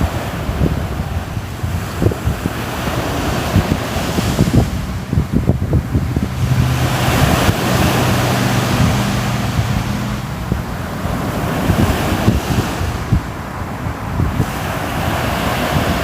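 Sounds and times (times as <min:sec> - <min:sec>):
sea waves breaking: 0:00.0 - 0:16.0
wind buffeting microphone: 0:00.0 - 0:16.0.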